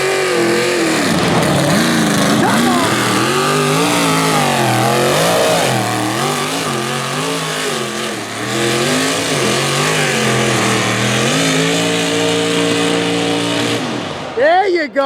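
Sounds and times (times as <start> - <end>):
engine revs surging under load: 0.0 - 14.4.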